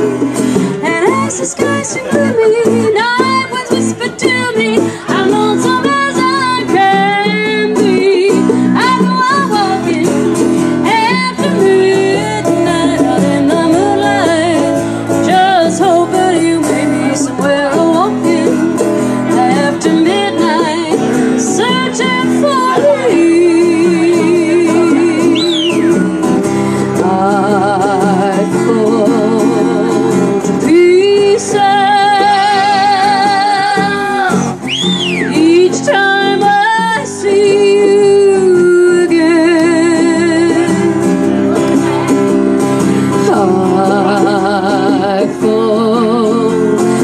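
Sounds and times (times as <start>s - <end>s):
woman singing with vibrato: 0.0s - 41.2s, 42.8s - 47.0s
guitar accompaniment: 0.0s - 47.0s.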